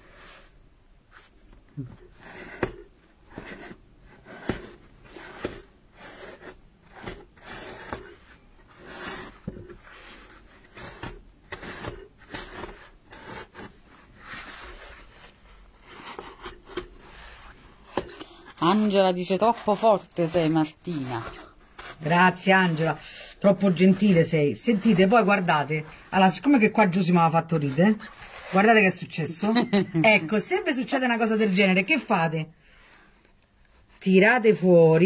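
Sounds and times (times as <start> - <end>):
fabric rubbing and scraping on foam: 0.0 - 35.0.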